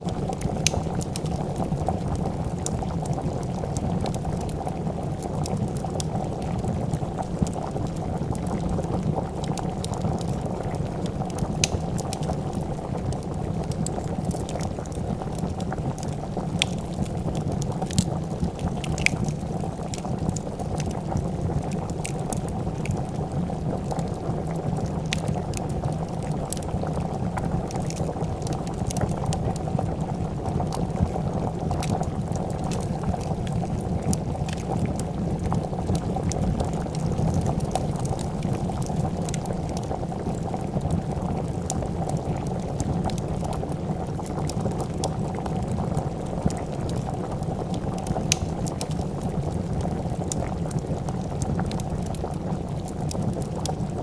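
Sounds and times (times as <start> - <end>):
soup boiling and bubbling: 0.0 - 54.0
wood fire crackling: 0.1 - 54.0.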